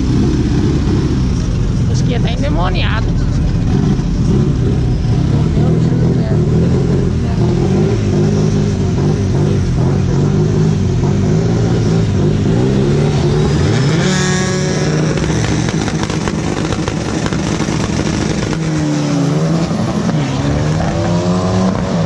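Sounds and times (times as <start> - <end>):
race car engines running: 0.0 - 22.0.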